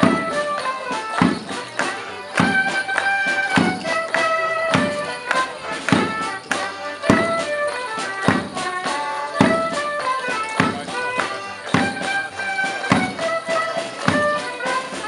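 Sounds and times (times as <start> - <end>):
live folk dance tune: 0.0 - 15.0.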